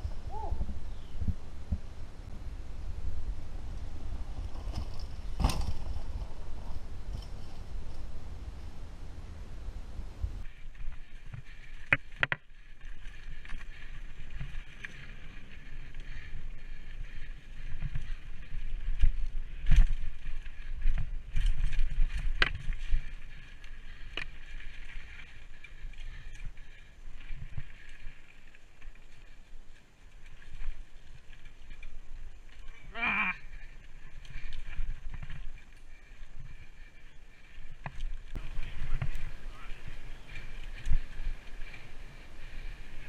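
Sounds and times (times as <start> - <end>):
wind rumbling on microphone: 0.0 - 43.0.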